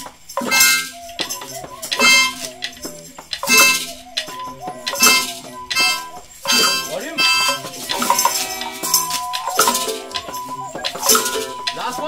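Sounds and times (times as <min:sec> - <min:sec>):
held pitched tones: 0:00.0 - 0:12.0
maracas shaking: 0:00.0 - 0:12.0.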